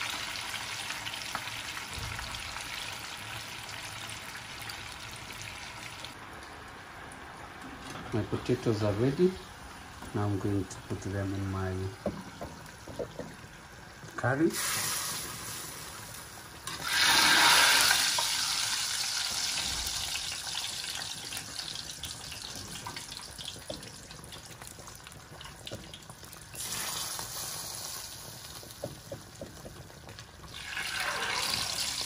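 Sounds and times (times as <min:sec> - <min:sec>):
food sizzling and crackling: 0:00.0 - 0:32.0.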